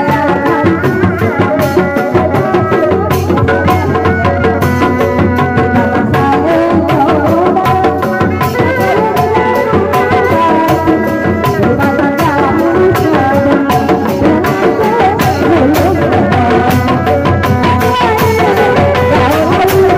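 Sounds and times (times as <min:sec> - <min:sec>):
barrel drums beaten in steady rhythm: 0:00.0 - 0:19.9.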